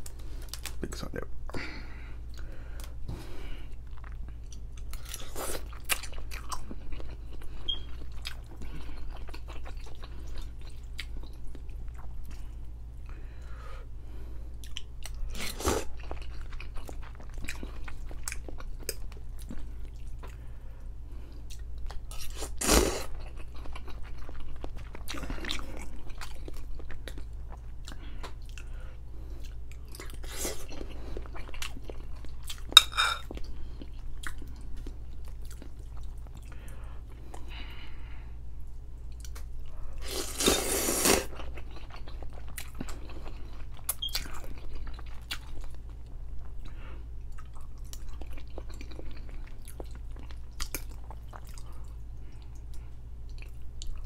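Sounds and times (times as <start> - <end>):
faint low hum: 0.0 - 54.0
person chewing food: 1.5 - 54.0.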